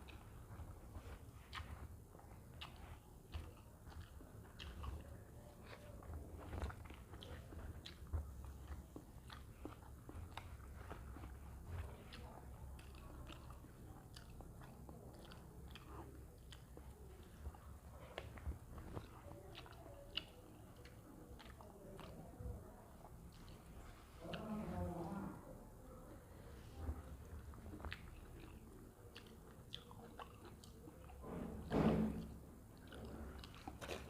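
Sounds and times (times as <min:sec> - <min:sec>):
person chewing with crunches: 0:00.0 - 0:25.1, 0:26.4 - 0:34.0.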